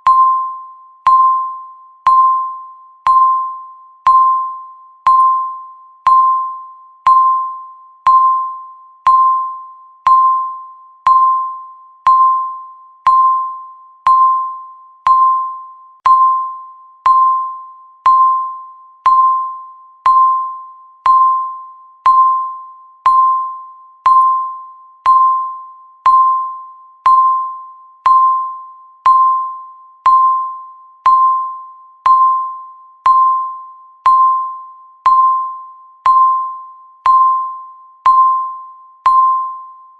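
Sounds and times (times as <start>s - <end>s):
timer chime beeps: 0.0s - 39.9s.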